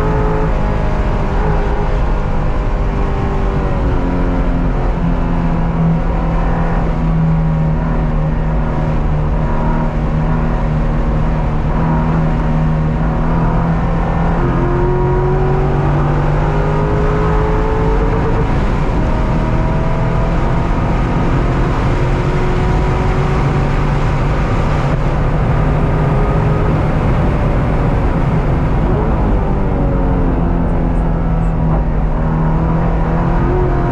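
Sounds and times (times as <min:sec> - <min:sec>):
race car engine accelerating: 0:00.0 - 0:33.9.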